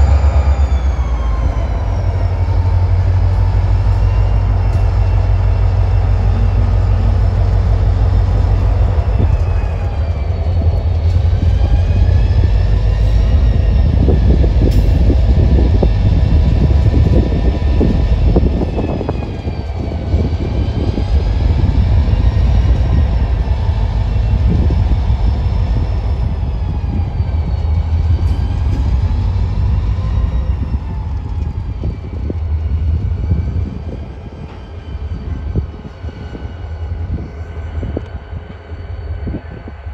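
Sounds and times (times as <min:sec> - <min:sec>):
freight train rumble and rattle: 0:00.0 - 0:39.9.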